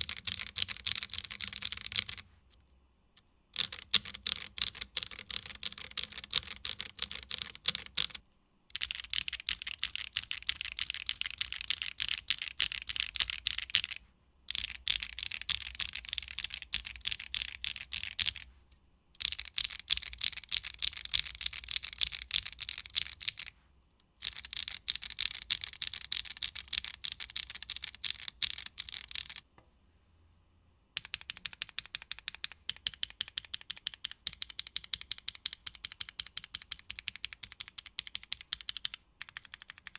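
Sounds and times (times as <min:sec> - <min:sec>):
fast mechanical keyboard typing: 0:00.0 - 0:02.2, 0:03.6 - 0:18.5, 0:19.2 - 0:23.5, 0:24.2 - 0:29.4, 0:31.0 - 0:39.9.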